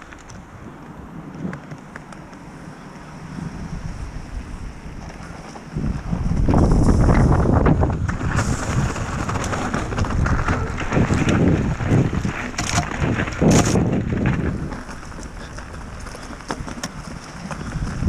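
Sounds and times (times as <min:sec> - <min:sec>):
mountain bike rumble and rattle: 0:00.0 - 0:18.0
wind buffeting microphone: 0:00.0 - 0:18.0.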